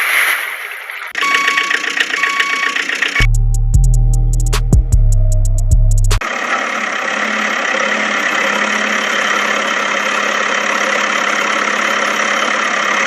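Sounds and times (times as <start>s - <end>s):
steady engine-like running noise: 1.2s - 13.0s.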